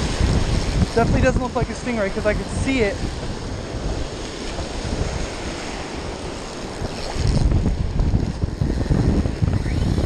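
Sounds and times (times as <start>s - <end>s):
surf washing in shallows: 0.0s - 10.0s
wind rumbling on microphone: 0.0s - 10.0s.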